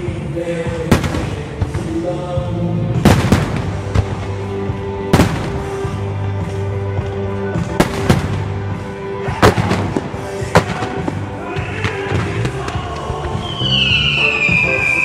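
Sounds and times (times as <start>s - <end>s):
background music with sustained tones: 0.0s - 15.0s.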